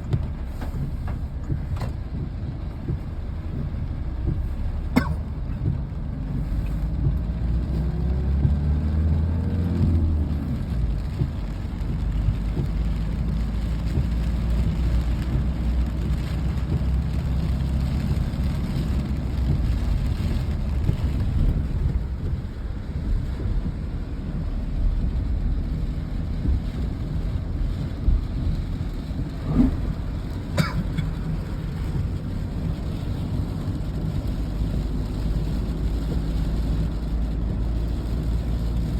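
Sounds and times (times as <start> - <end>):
rain: 0.0 - 38.9
vehicle engine rumbling: 0.0 - 38.9.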